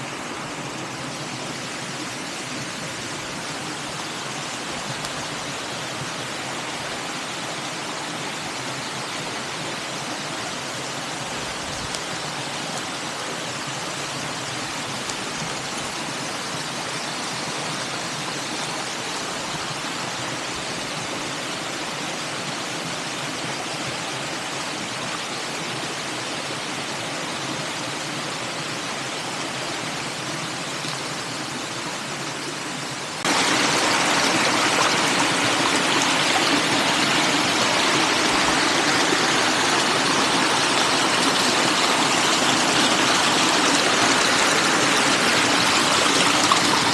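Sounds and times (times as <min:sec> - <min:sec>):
stream rushing: 0:00.0 - 0:46.9.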